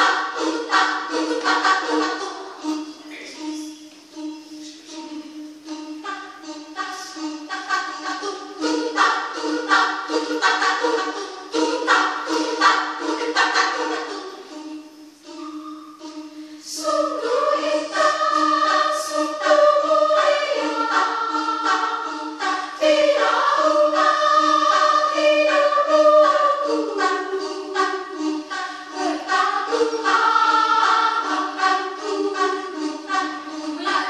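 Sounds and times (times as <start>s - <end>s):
women's choir singing: 0.0s - 34.0s.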